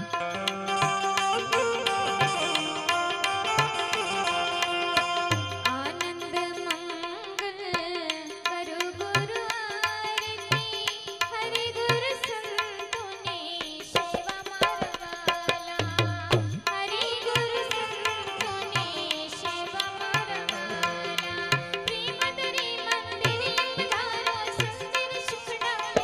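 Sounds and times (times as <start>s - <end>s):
tabla drumming: 0.0s - 26.0s.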